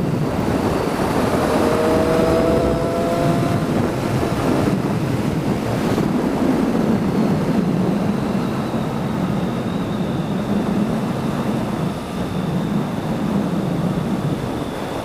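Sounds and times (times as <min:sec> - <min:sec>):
motorcycle engine hum: 0:00.0 - 0:15.0
wind rush on microphone: 0:00.0 - 0:15.0.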